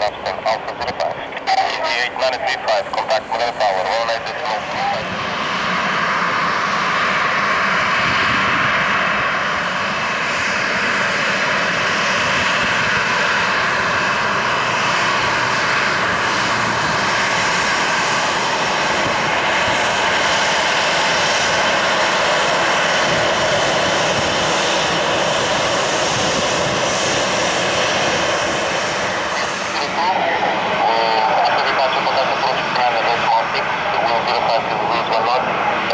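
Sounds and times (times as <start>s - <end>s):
jet engines running: 0.0s - 35.9s.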